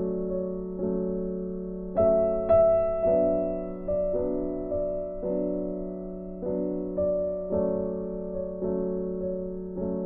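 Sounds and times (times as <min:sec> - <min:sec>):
slow solo piano music: 0:00.0 - 0:10.0.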